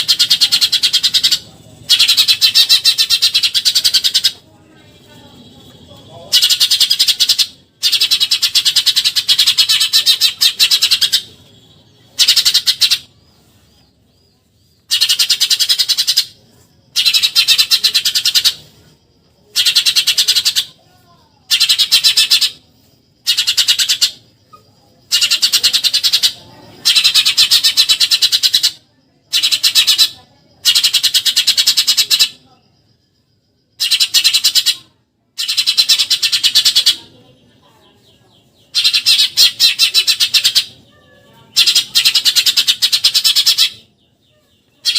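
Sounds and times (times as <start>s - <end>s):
sparrow shrill chattering: 0.0s - 4.4s, 5.1s - 13.6s, 14.7s - 44.9s.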